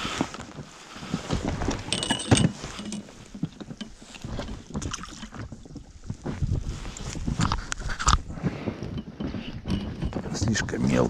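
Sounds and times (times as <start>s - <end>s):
water noise: 0.0s - 11.0s
wind: 0.0s - 11.0s
handling clicks and knocks: 0.2s - 11.0s.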